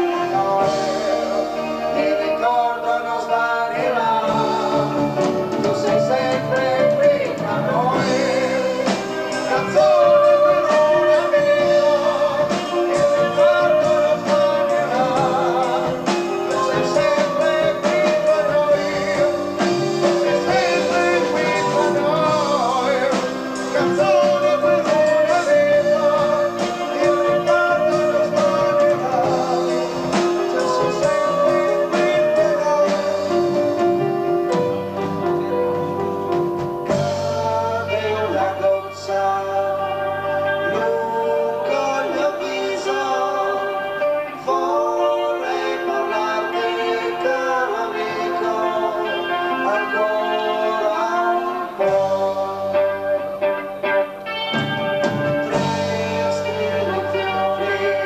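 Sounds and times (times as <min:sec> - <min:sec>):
drums: 0:00.0 - 0:58.0
person singing: 0:00.0 - 0:58.0
rock band playing live: 0:00.0 - 0:58.0.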